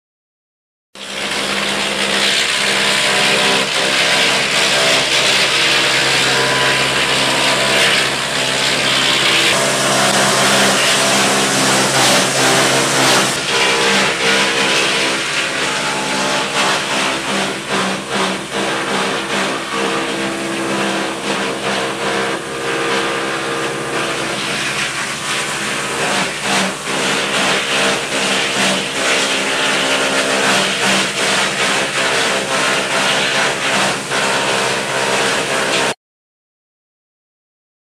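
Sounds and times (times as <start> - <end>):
wood chipper running: 1.0 - 36.0.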